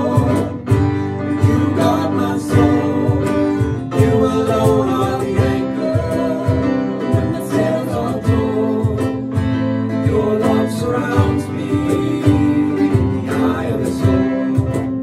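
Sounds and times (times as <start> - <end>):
person singing: 0.0 - 15.0
strummed acoustic guitar: 0.0 - 15.0.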